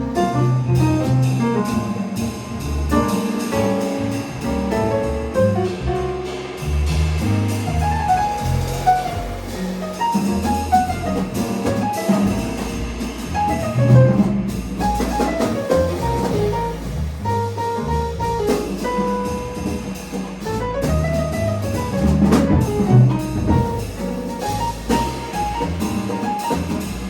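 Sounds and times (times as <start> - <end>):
bass: 0.0 - 27.0
drum kit with cymbals: 0.0 - 27.0
piano line: 0.0 - 27.0.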